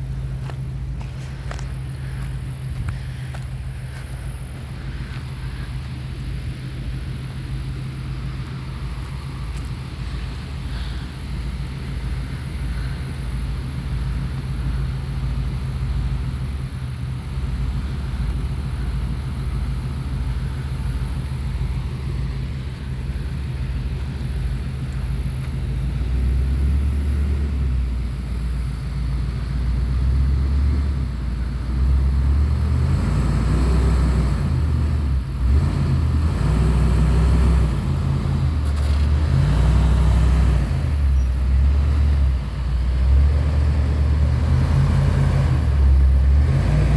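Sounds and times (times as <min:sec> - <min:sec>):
vehicle engine over rocks: 0:00.0 - 0:46.9.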